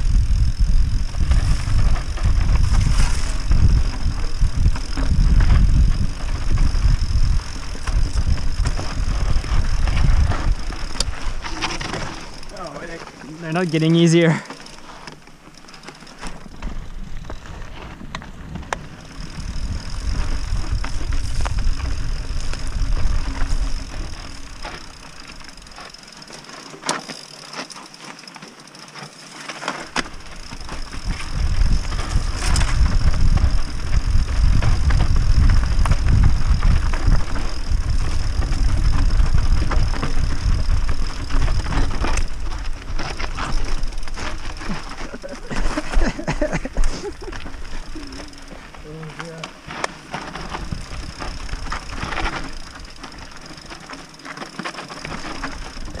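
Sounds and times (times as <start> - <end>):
wind buffeting microphone: 0.0 - 13.0, 16.4 - 25.8, 30.0 - 48.9, 50.2 - 53.8
bike clicking and rattling: 0.0 - 56.0
tyres crunching over dirt and rocks: 1.0 - 56.0.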